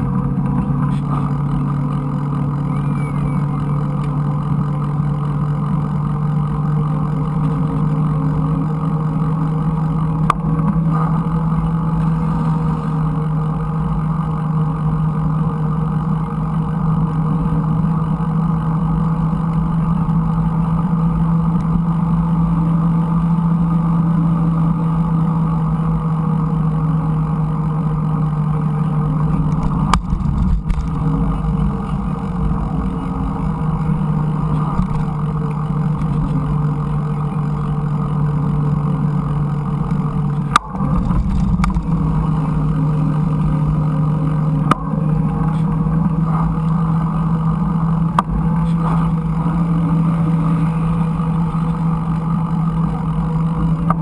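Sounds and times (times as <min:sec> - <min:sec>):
bike riding rumble: 0:00.0 - 0:54.0
steady low hum: 0:00.0 - 0:54.0.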